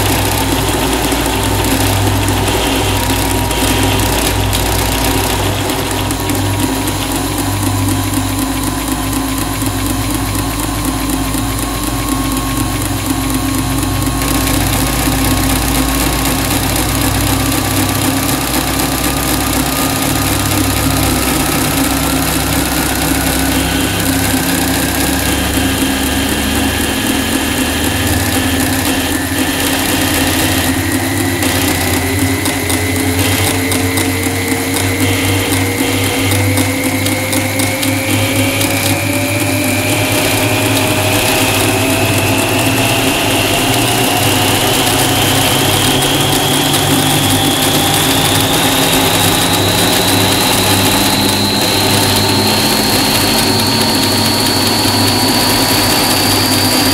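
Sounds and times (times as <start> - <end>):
rising electronic tones: 0.0 - 56.9
sewing machine humming: 0.0 - 56.9.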